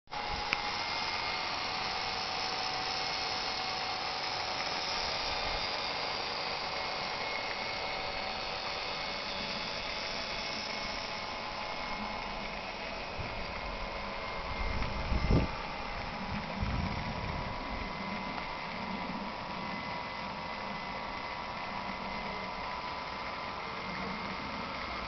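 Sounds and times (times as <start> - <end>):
steam turbine whine with hiss: 0.1 - 25.0.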